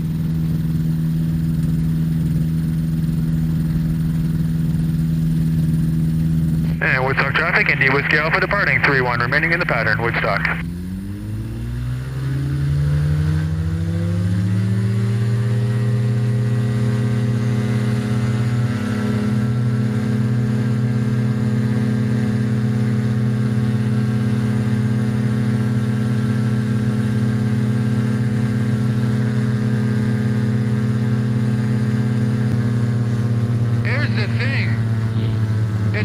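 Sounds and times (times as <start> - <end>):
ultralight aircraft engine and propeller: 0.0 - 36.0.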